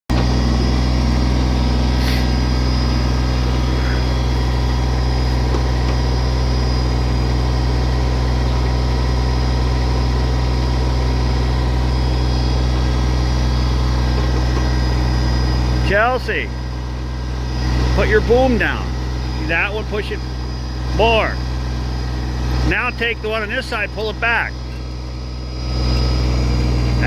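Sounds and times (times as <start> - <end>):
diesel engine running: 0.1 - 27.0.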